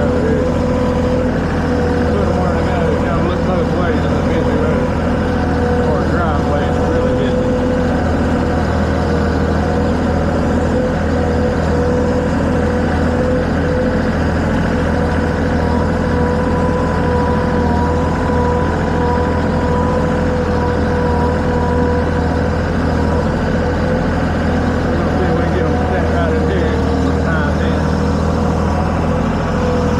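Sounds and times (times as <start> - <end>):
heavy vehicle engine running: 0.0 - 29.9
steady whine: 0.0 - 29.9.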